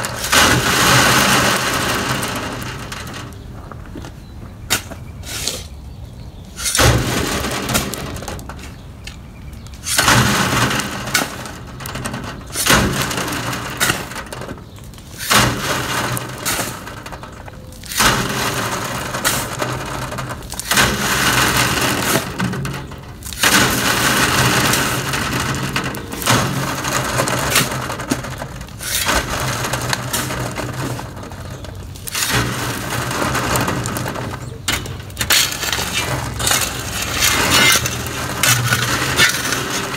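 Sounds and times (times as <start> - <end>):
soil thrown onto wire mesh: 0.0 - 3.4, 6.6 - 8.8, 9.8 - 39.9
stones rattling down mesh: 0.0 - 3.8, 6.6 - 39.9.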